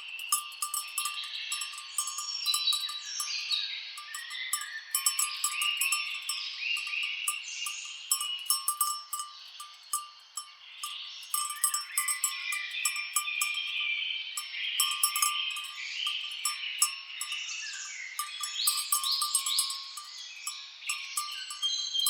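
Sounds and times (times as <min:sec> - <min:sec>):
birds chirping: 0:00.0 - 0:22.0
cowbells clinking: 0:00.0 - 0:22.0.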